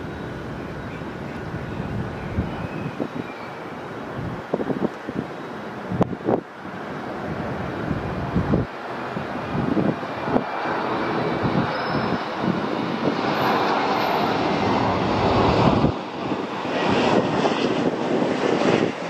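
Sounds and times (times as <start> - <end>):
jet airliner engines rushing: 0.0 - 19.0
wind buffeting microphone: 0.0 - 19.0.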